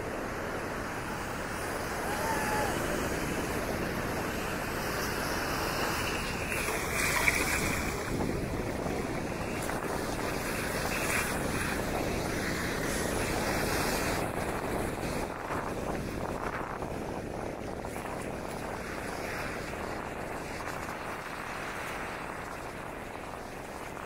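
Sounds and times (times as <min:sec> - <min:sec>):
waves breaking on beach: 0:00.0 - 0:24.0
wind on microphone: 0:00.0 - 0:24.0.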